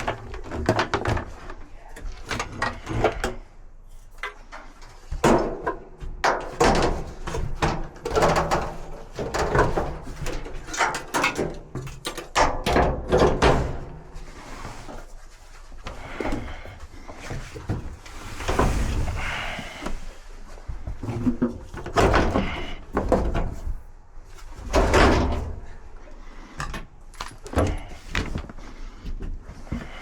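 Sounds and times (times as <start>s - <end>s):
clunks and knocks of dryer parts: 0.0s - 30.0s.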